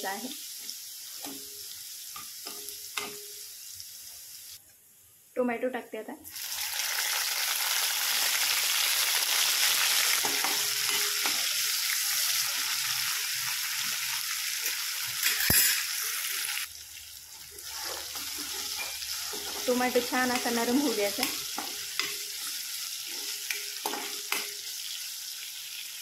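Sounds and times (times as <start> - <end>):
tomato sizzling in hot oil: 0.0 - 5.0, 6.2 - 26.0.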